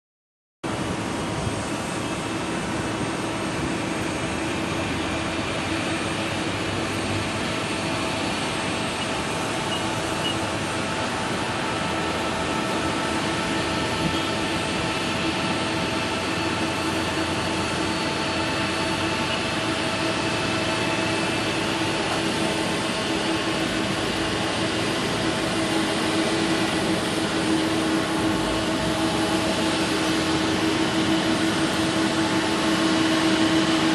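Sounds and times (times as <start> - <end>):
jet engines roaring: 0.6 - 33.9.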